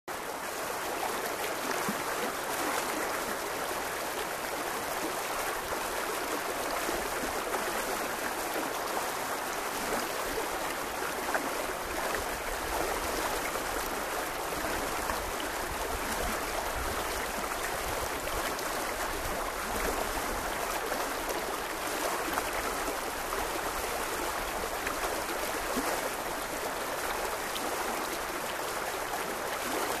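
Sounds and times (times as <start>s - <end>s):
river rushing over rocks: 0.2s - 30.0s.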